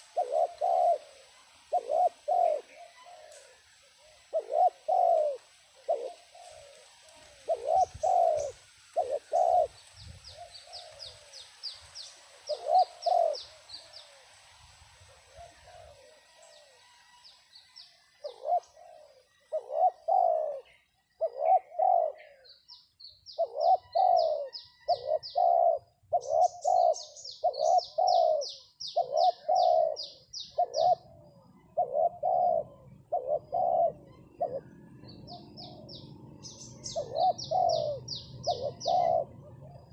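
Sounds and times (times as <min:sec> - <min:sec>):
doves cooing: 0:00.0 - 0:11.6, 0:12.2 - 0:14.3, 0:15.1 - 0:17.2, 0:18.1 - 0:22.6, 0:23.3 - 0:39.9.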